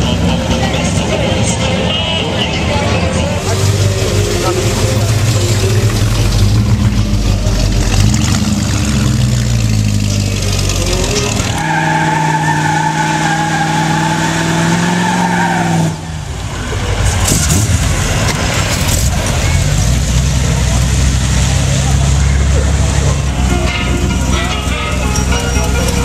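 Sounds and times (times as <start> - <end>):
car engines rumbling: 0.0 - 26.0.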